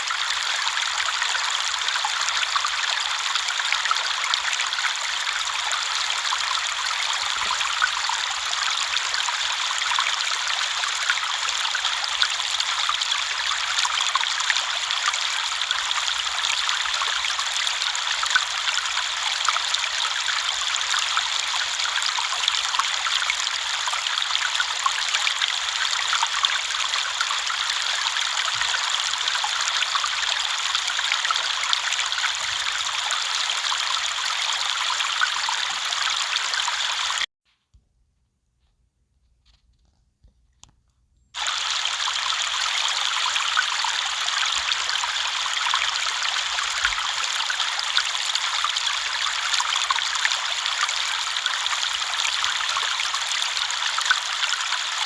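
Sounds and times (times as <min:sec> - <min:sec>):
river water flowing over stones: 0:00.0 - 0:37.3, 0:41.4 - 0:55.0.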